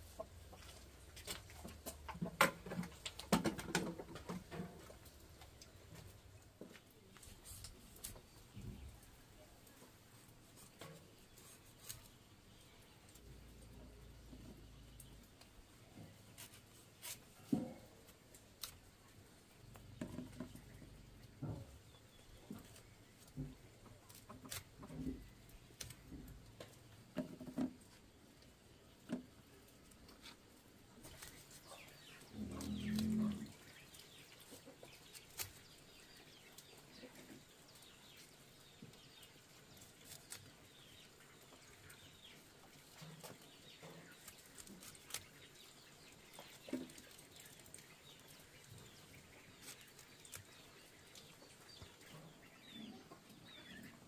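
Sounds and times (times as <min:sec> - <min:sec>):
chickens clucking: 0:00.0 - 0:12.2, 0:19.3 - 0:54.0.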